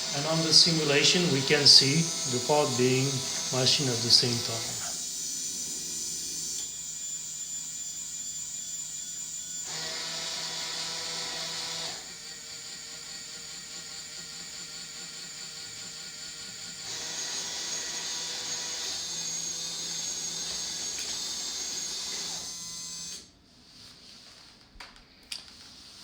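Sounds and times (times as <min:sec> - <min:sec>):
small electric motors whining: 0:00.0 - 0:24.5.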